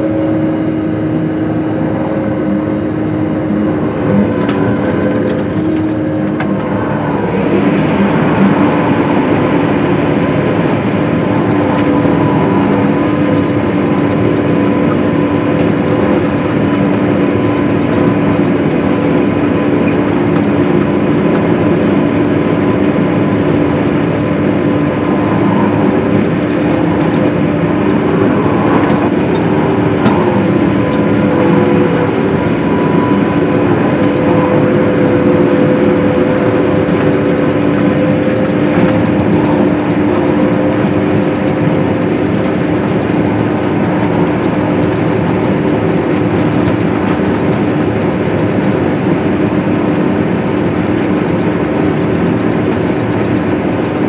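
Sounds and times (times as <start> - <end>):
swather engine and machinery drone: 0.0 - 54.0.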